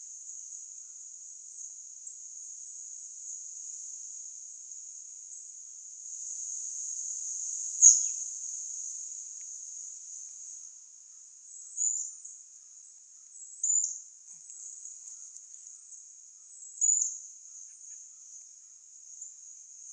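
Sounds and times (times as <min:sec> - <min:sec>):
insects trilling: 0:00.0 - 0:19.9
sharp insect chirp: 0:00.0 - 0:19.9.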